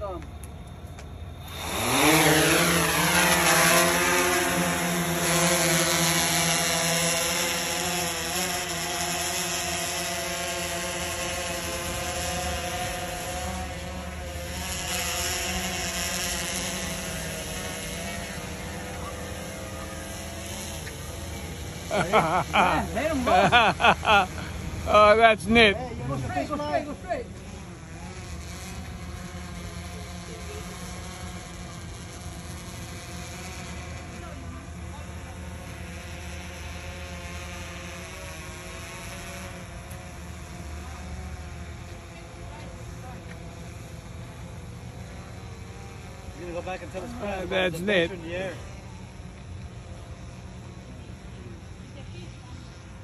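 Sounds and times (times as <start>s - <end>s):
drone propellers whining: 0.0s - 53.0s.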